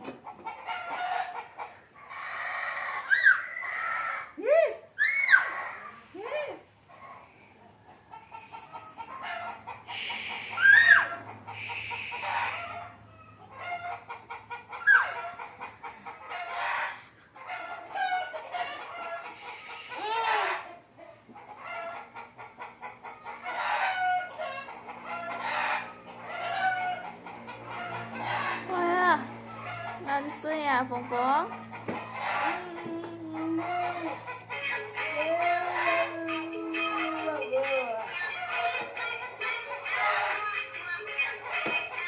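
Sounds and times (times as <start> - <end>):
chickens clucking: 0.0 - 4.4, 6.8 - 42.0.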